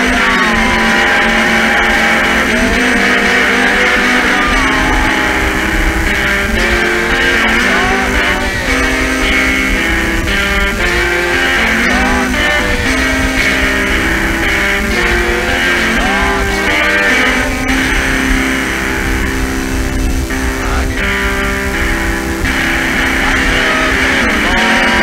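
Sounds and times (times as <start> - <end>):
electric guitar notes: 0.0 - 25.0
tape hiss: 0.0 - 25.0.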